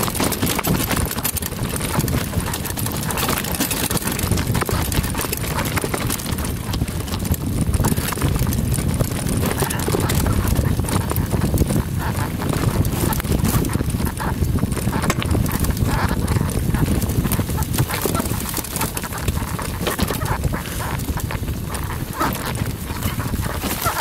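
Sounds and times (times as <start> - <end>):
bike rattling with sharp knocks: 0.0 - 24.0
tyres rumbling on dirt: 0.0 - 24.0.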